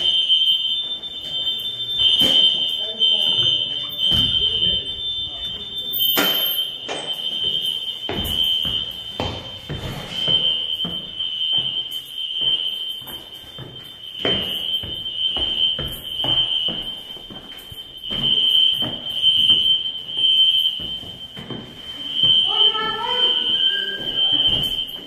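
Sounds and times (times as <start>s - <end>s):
fire alarm pulsing tone: 0.0s - 25.0s
footsteps on stairwell: 0.0s - 25.0s.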